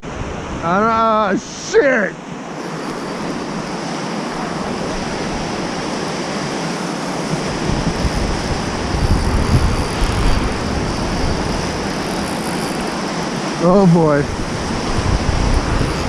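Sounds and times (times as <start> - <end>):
whitewater river roaring: 0.1 - 16.0.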